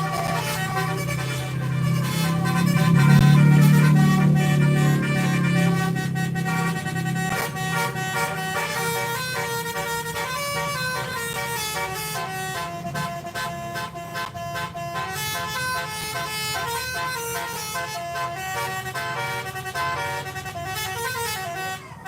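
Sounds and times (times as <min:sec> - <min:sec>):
bus engine running: 0:00.0 - 0:22.0
multi-tone bus horn tune: 0:00.0 - 0:22.0.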